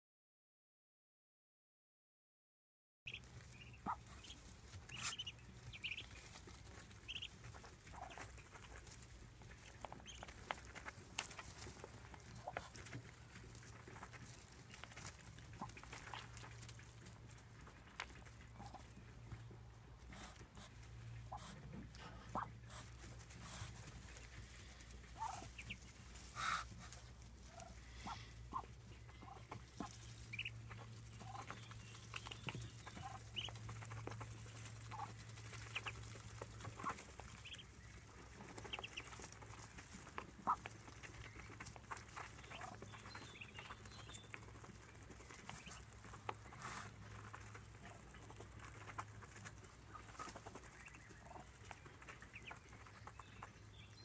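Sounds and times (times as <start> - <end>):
ducklings peeping: 3.1 - 54.0.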